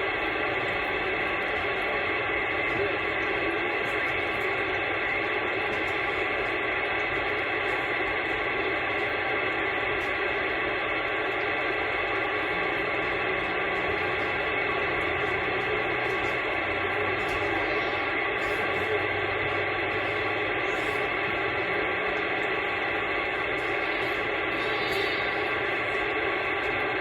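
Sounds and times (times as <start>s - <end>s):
radio static hissing: 0.2s - 27.0s.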